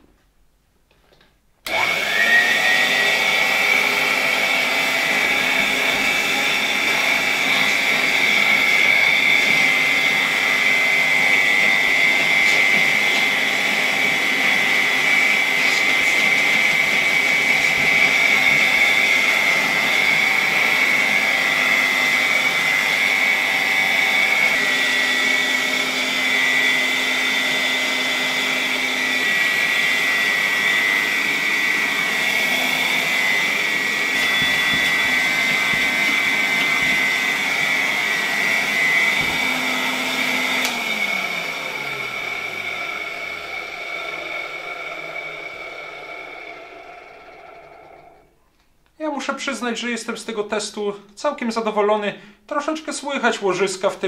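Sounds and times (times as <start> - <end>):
vacuum cleaner motor whine: 1.6 - 48.4.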